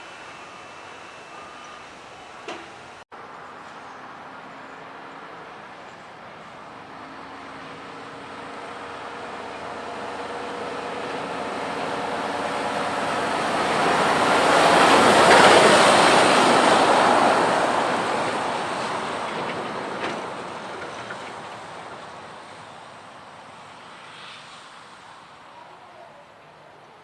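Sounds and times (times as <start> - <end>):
heavy vehicle passing by: 0.0 - 25.5.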